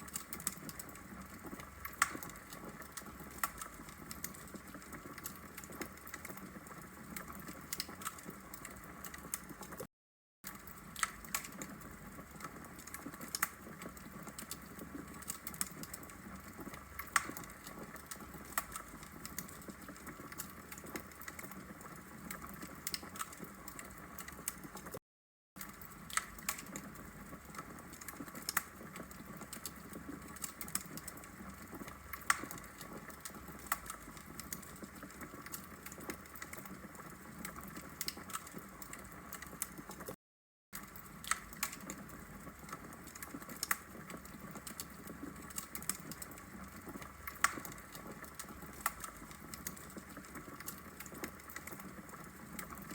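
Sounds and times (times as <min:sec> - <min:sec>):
wood fire crackling: 0:00.0 - 0:09.9, 0:10.5 - 0:25.0, 0:25.6 - 0:40.2, 0:40.8 - 0:52.9.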